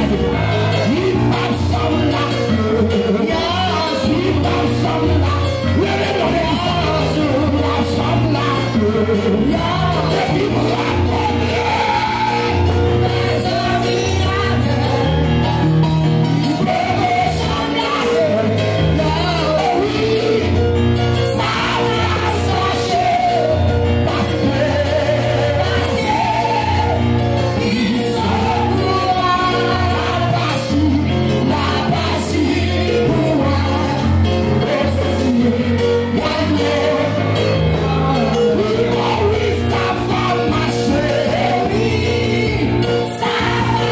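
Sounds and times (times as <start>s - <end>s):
amplified band: 0.0s - 43.9s
bass line: 0.0s - 43.9s
congregation singing: 0.0s - 43.9s
keyboard chords: 0.0s - 43.9s.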